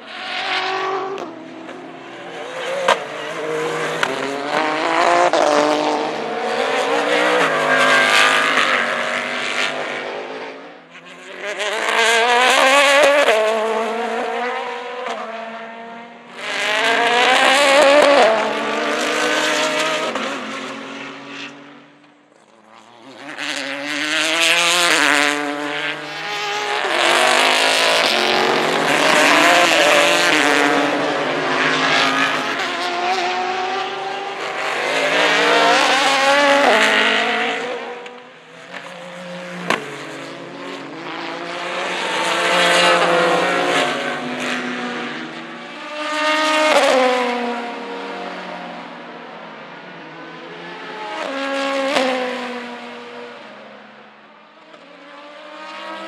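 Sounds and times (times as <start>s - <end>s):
race cars passing at speed: 0.0s - 56.0s.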